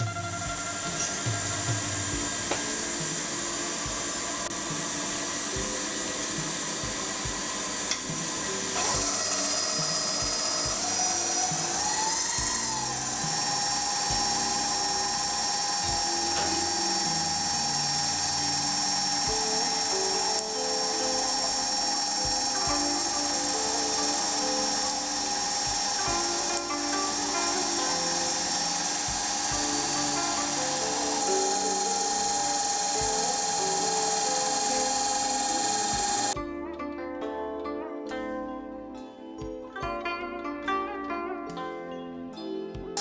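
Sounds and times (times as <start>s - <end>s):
lathe cutting with a whine: 0.0s - 36.4s
background music: 0.0s - 43.0s.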